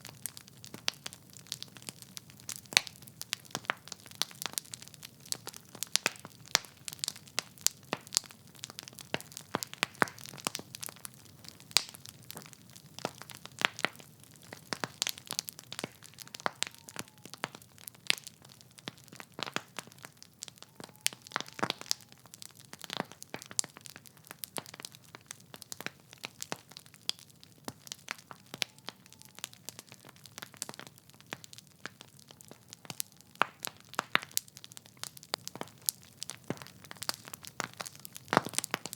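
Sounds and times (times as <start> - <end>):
logs crackling and popping: 0.0 - 38.9.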